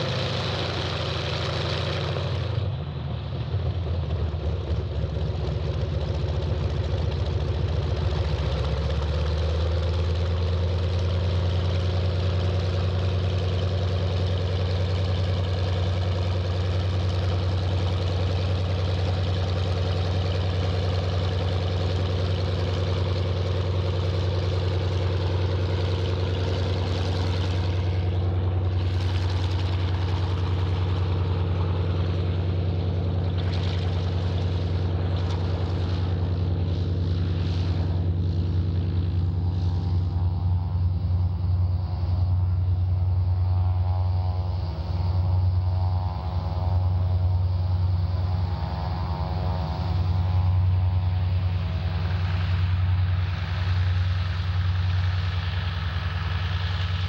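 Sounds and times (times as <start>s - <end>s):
radial aircraft engine idling: 0.0s - 57.0s.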